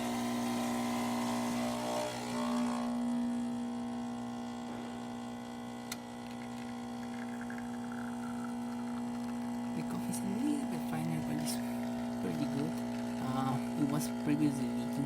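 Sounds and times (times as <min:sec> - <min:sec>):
espresso machine pump humming: 0:00.0 - 0:15.0.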